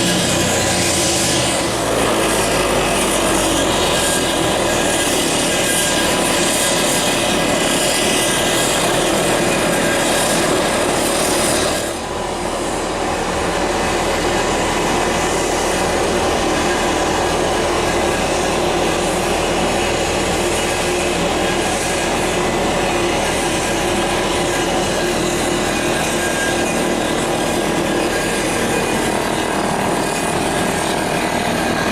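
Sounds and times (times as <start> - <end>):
jet engines roaring with whine: 0.0 - 31.9.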